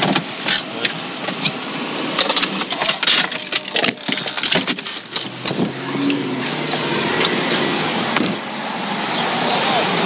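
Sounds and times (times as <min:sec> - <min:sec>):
outdoor street noise: 0:00.0 - 0:10.0.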